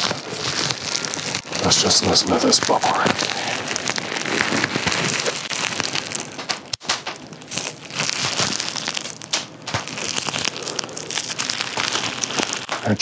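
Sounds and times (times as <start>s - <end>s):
bubble wrap crackling: 0.0s - 13.0s.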